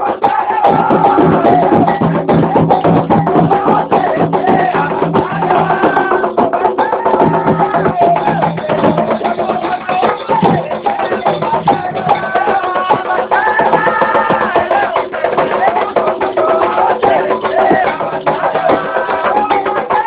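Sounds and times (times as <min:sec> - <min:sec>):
drums: 0:00.0 - 0:20.0
rapid clacking beat: 0:00.0 - 0:20.0
voices singing: 0:00.0 - 0:20.0.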